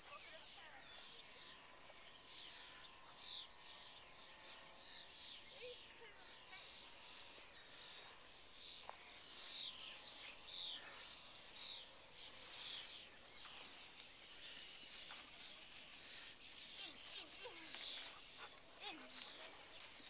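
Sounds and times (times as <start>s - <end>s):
faint birdsong: 0.0s - 20.0s
steady outdoor hiss: 0.0s - 20.0s.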